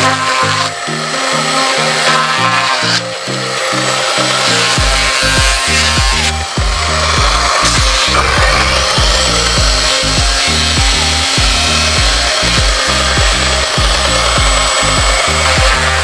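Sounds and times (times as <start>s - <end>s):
background music with beat: 0.0s - 16.0s
chainsaw cutting: 0.0s - 16.0s.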